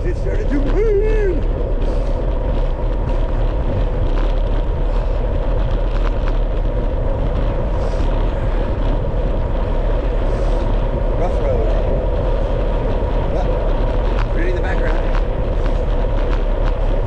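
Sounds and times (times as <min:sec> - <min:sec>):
bike clicks and rattles: 0:00.0 - 0:17.0
low rumble: 0:00.0 - 0:17.0
wind rushing on microphone: 0:00.0 - 0:17.0.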